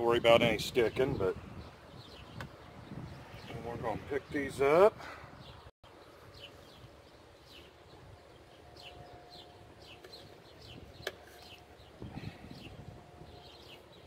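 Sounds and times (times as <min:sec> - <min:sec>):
outdoor background hiss: 0:00.0 - 0:14.0
small birds chirping: 0:00.2 - 0:14.0.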